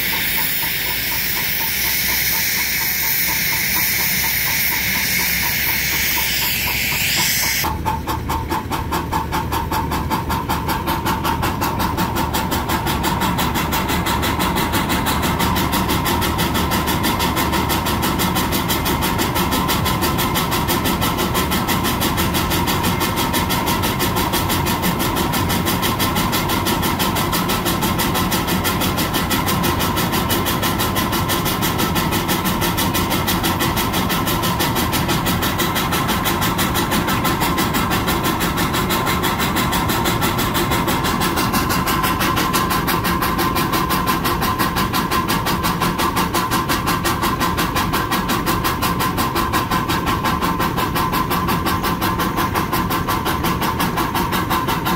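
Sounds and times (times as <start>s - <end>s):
steam engine exhaust beat: 0.0s - 54.9s.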